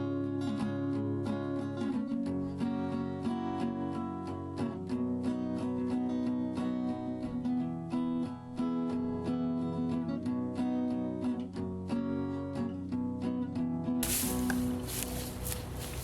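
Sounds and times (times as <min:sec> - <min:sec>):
strummed acoustic guitar: 0:00.0 - 0:14.4.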